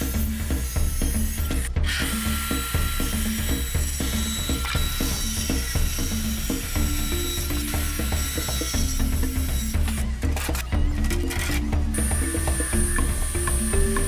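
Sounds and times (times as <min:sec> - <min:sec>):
music with clicking beat: 0:00.0 - 0:14.0.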